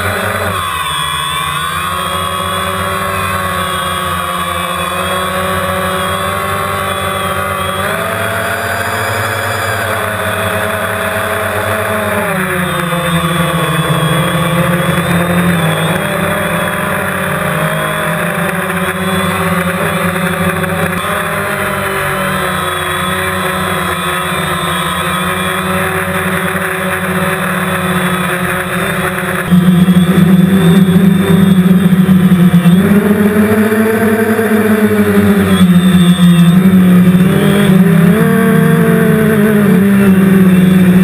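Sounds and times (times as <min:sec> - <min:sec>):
drone propellers whining: 0:00.0 - 0:41.0.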